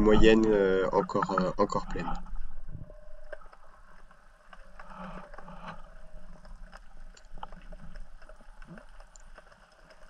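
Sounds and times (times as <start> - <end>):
low rumble of water: 0.0 - 10.0
underwater clicks and crackles: 0.0 - 10.0.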